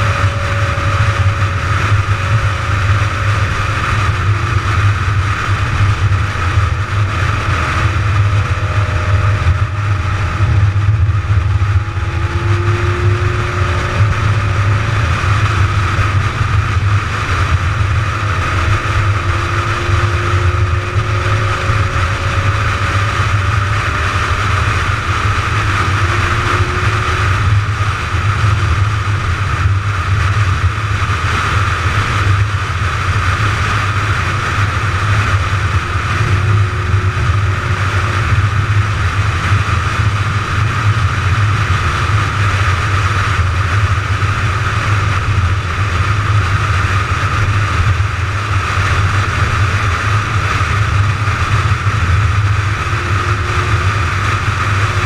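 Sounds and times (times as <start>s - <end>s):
car engine tyre and wind drone: 0.0s - 55.0s.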